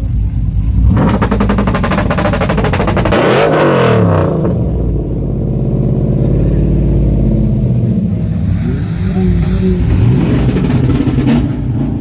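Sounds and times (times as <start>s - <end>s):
exhaust pops: 0.0s - 12.0s
truck engine revving: 0.0s - 12.0s.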